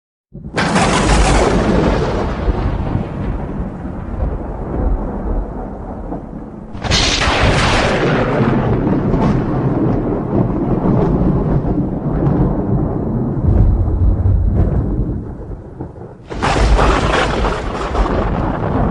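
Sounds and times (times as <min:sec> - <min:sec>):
thunder crack: 0:00.3 - 0:18.9
thunder rumbling: 0:00.3 - 0:18.9.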